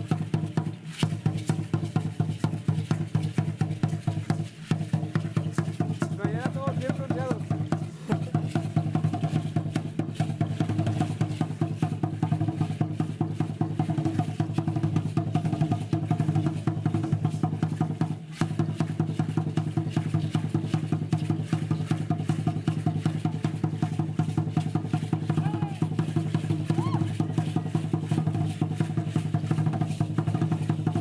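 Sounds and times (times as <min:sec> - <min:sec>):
rapid drum strikes: 0:00.0 - 0:31.0.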